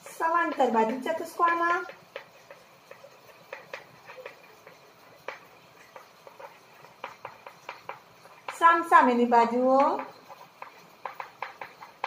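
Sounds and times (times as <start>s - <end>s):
chalk tapping on blackboard: 0.0s - 0.8s, 1.4s - 8.7s, 9.8s - 12.0s.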